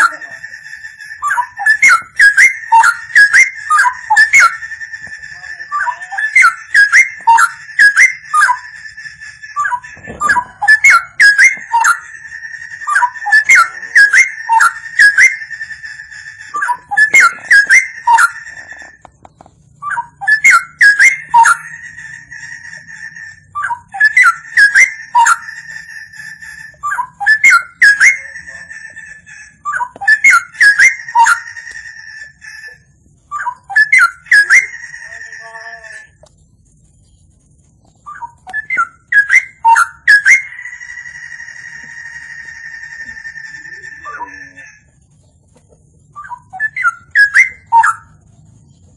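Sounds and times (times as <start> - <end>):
bird singing whistled phrases: 0.0 - 19.0, 19.8 - 36.1, 38.0 - 41.8, 46.1 - 48.2.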